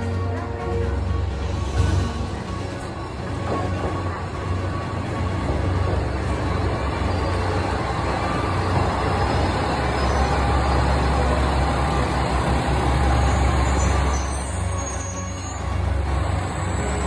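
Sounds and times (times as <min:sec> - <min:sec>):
diesel railcar engine humming: 0:00.0 - 0:17.0.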